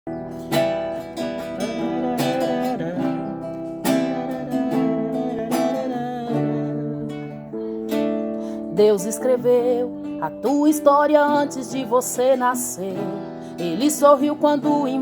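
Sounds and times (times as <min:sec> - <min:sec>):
acoustic guitar strumming chords: 0:00.1 - 0:15.0.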